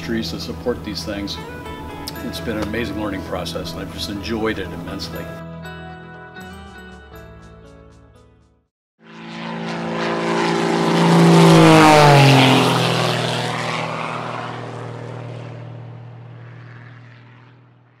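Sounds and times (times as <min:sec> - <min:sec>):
propeller airplane flying past: 0:00.0 - 0:05.4, 0:09.0 - 0:18.0.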